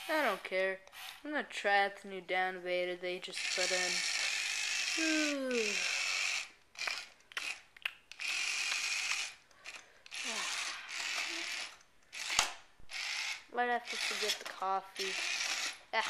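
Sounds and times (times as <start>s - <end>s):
toy truck motor whirring: 0.0s - 1.2s, 3.2s - 16.0s.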